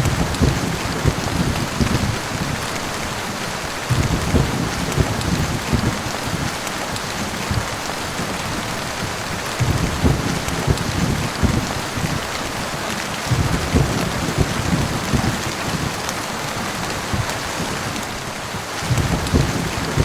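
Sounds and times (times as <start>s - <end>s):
heavy rain falling: 0.0s - 20.0s
thunder rumbling: 0.0s - 20.0s.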